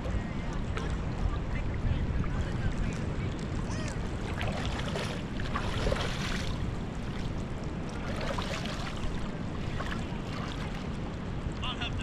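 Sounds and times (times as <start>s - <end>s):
water sloshing and lapping: 0.0s - 11.6s
wind rumble on microphone: 0.0s - 12.0s.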